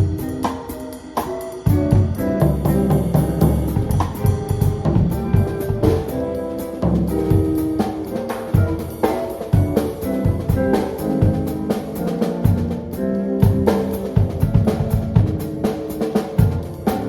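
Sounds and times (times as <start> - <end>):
drum kit keeping time: 0.0 - 17.0
live jazz band playing: 0.0 - 17.0.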